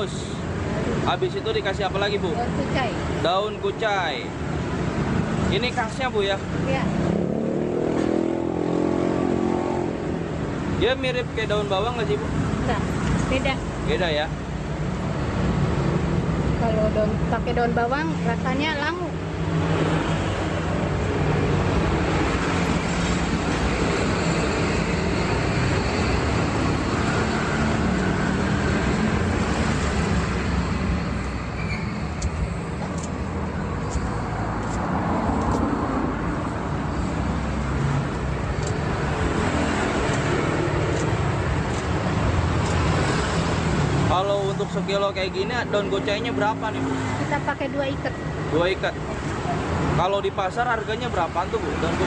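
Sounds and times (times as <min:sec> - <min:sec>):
road traffic noise: 0:00.0 - 0:52.0.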